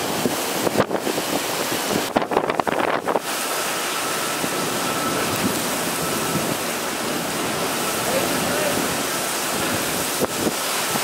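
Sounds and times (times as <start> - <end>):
heavy driving rain: 0.0 - 11.0
strong wind: 0.0 - 11.0
wind buffeting microphone: 0.0 - 11.0.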